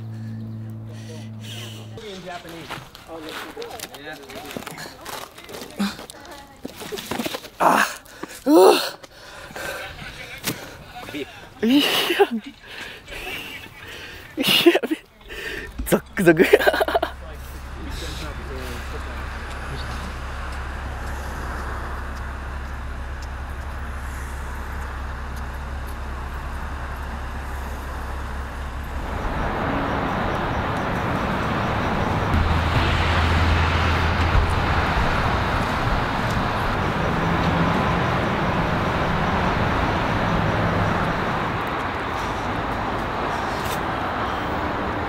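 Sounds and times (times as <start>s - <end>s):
outdoor background rumble and hiss: 0.0s - 45.0s.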